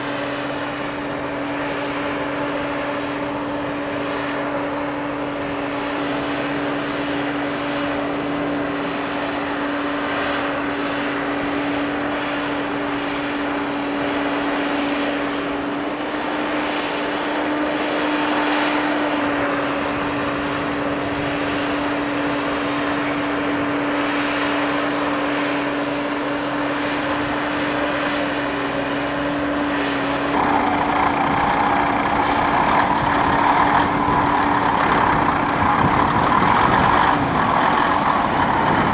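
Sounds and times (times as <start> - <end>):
heavy engine humming: 0.0 - 38.9.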